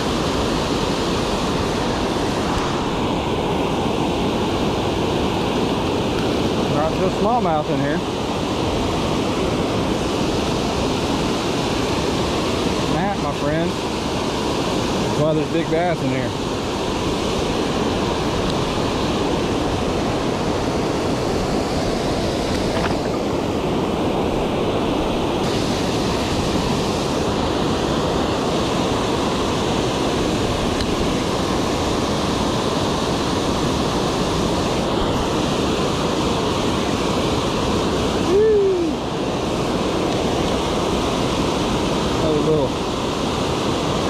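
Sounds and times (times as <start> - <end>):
water rushing over spillway: 0.0 - 44.0.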